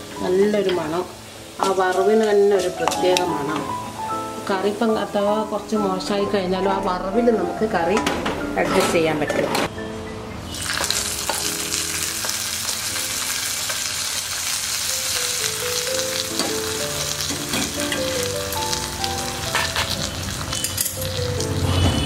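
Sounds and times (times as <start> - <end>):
spices sizzling in oil: 0.0 - 6.3, 10.4 - 22.0
simple background melody: 0.0 - 22.0.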